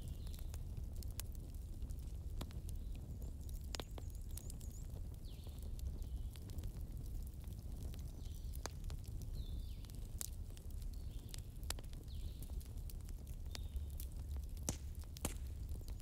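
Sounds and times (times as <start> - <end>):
fire crackling and popping: 0.0 - 16.0
log fire rumbling: 0.0 - 16.0.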